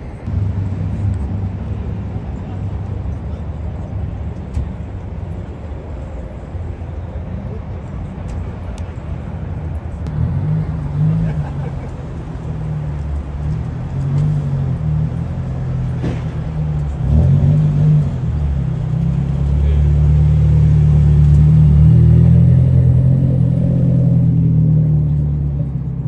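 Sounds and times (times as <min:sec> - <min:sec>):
car engine rumbling at low revs: 0:00.0 - 0:26.0.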